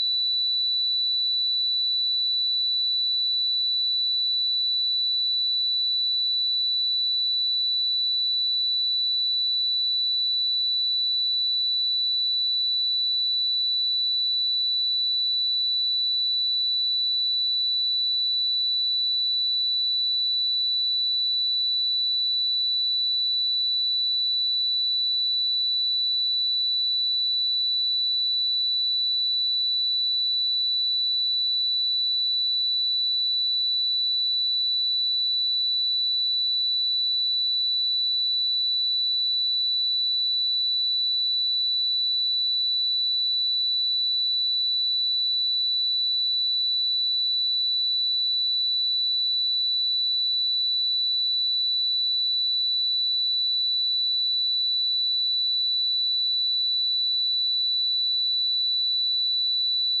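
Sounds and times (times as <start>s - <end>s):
sine-wave test tone: 0.0s - 60.0s.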